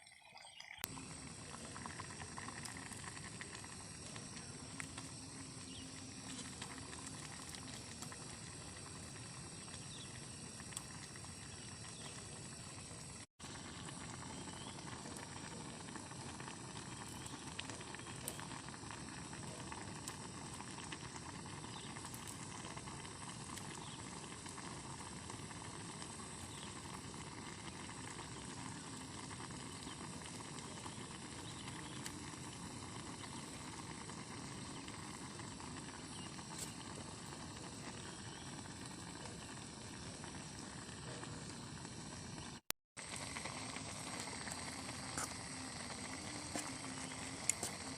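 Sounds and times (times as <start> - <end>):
faint drops ticking: 0.0 - 47.9
steady rain hiss: 0.9 - 47.9.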